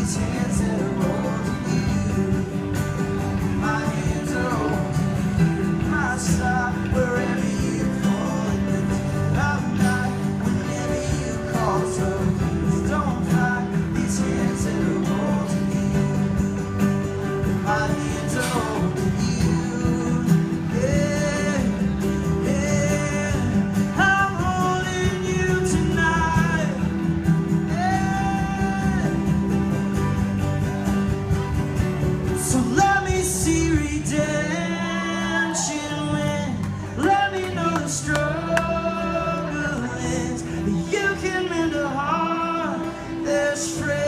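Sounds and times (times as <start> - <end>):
live band playing guitars: 0.0 - 44.0.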